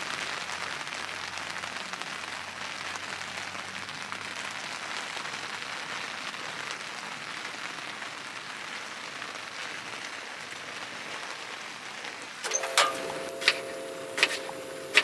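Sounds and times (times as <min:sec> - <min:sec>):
steady rain falling: 0:00.0 - 0:12.5.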